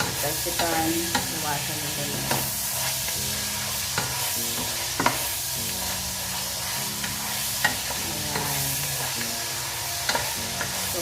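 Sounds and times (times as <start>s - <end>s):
pork frying in hot oil: 0.0s - 11.0s.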